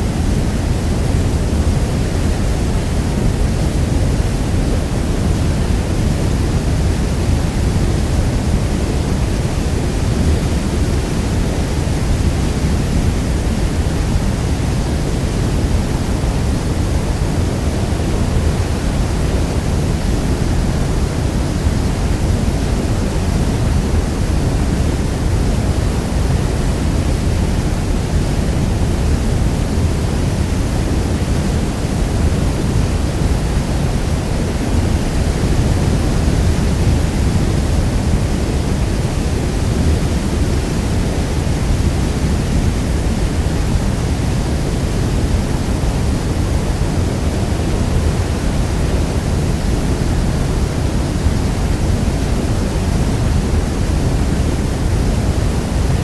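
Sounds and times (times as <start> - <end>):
waterfall thundering: 0.0 - 56.0.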